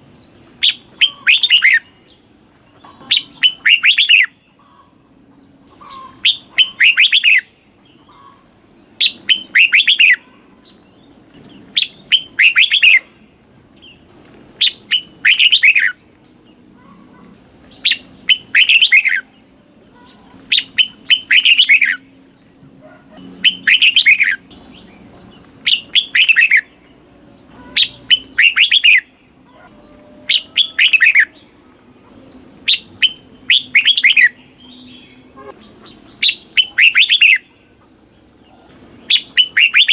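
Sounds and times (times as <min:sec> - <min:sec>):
bird singing quick phrases: 0:05.8 - 0:14.0, 0:14.6 - 0:31.4, 0:32.0 - 0:39.9.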